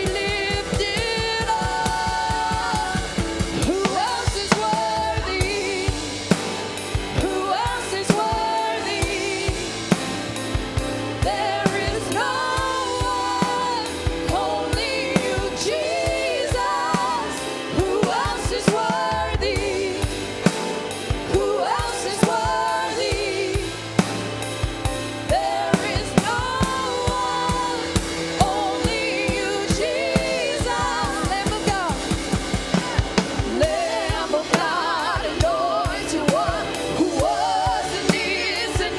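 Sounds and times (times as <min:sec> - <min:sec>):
drum kit beat: 0:00.0 - 0:38.9
person singing: 0:00.0 - 0:38.9.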